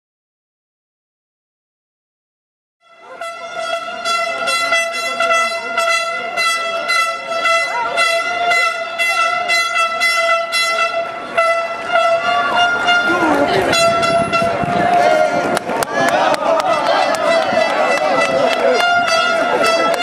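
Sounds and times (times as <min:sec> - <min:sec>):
horn steady note: 0:02.8 - 0:20.0
crowd shouting: 0:02.9 - 0:20.0.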